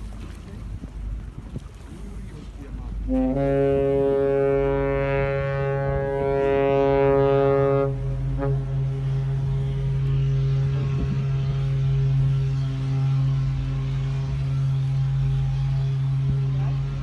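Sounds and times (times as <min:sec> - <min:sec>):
deep ship horn steady note: 0:00.0 - 0:17.0
ship horn blast and toot: 0:00.1 - 0:17.0.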